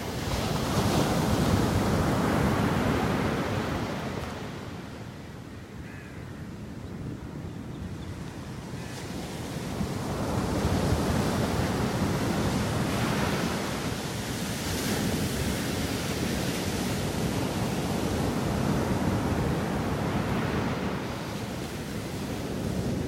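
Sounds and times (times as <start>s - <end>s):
ocean surf breaking on a beach: 0.0s - 23.0s.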